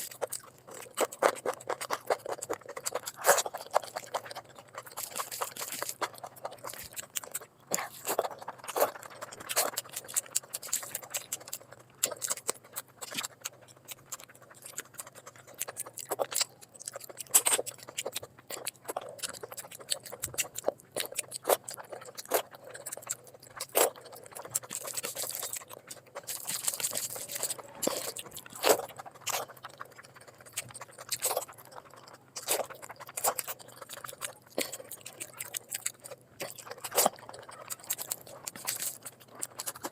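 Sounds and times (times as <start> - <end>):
chewing and mouth smacking: 0.0 - 39.9.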